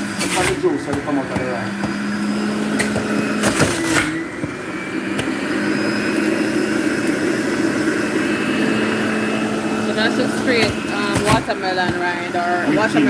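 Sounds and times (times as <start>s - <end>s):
juicer motor hum: 0.0s - 13.0s.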